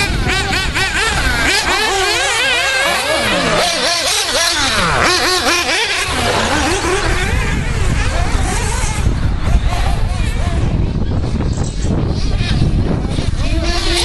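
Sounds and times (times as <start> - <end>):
toy car motors whining: 0.0 - 14.0.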